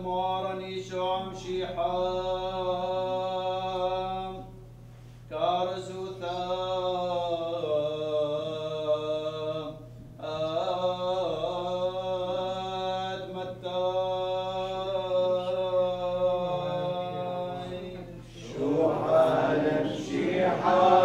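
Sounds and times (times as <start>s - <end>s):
man chanting: 0.0s - 4.5s, 5.3s - 20.8s
steady low hum: 0.0s - 21.0s.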